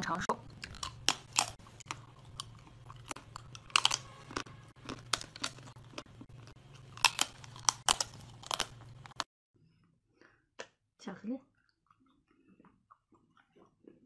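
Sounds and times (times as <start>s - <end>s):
crunchy chewing: 0.4s - 9.3s, 11.6s - 14.0s.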